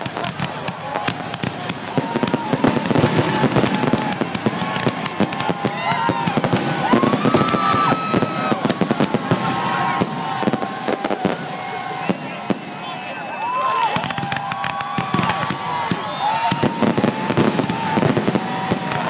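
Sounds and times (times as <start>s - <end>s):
fireworks bursting: 0.0s - 19.0s
fireworks crackling: 0.0s - 19.0s.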